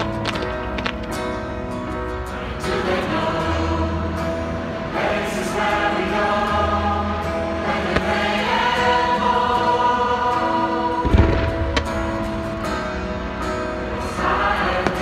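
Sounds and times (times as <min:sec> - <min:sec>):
choir singing held chords: 0:01.7 - 0:15.0.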